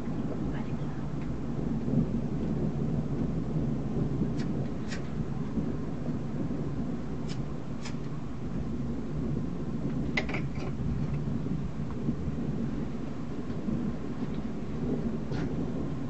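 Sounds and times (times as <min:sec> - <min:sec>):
low storm rumble: 0:00.0 - 0:16.0.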